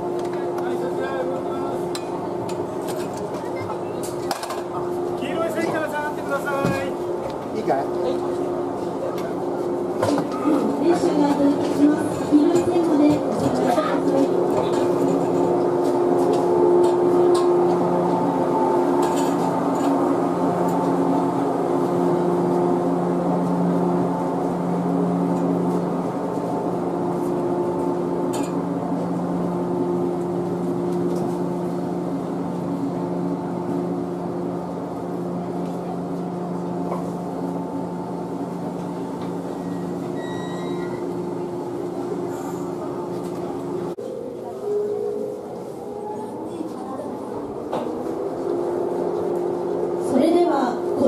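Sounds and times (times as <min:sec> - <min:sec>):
electric train humming past: 0:00.0 - 0:51.0.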